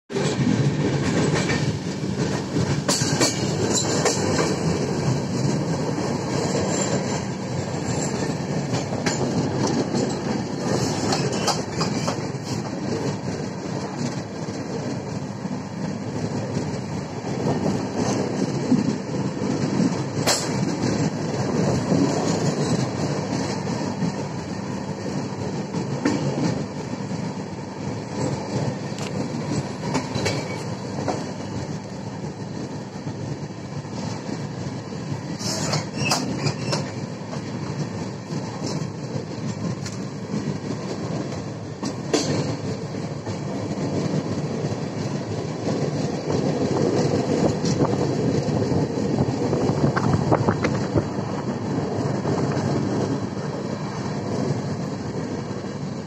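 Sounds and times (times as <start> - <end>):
train wheels rumbling on rails: 0.1 - 56.0.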